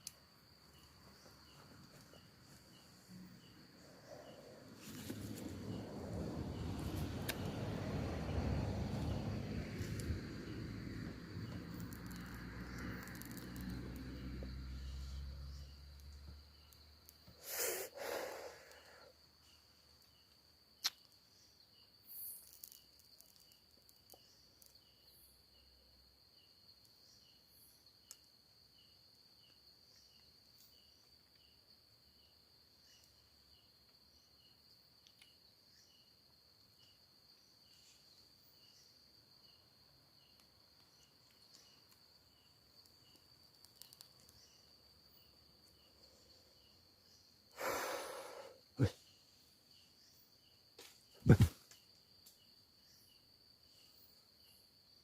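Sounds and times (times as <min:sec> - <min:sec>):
faint insect chirp: 0:00.0 - 0:55.0
insects trilling: 0:00.0 - 0:55.0.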